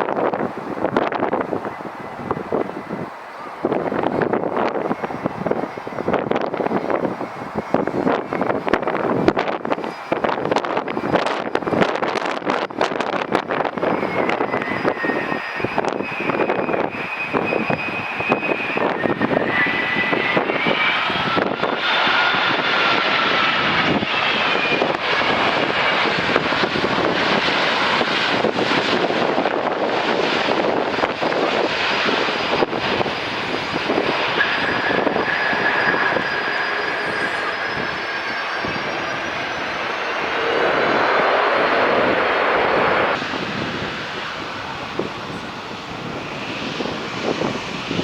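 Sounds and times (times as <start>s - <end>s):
jet engines running: 0.0s - 48.0s
wind buffeting microphone: 0.0s - 48.0s.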